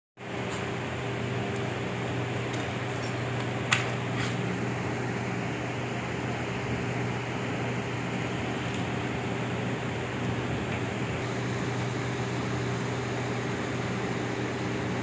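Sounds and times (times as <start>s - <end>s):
machinery hum: 0.2s - 15.0s.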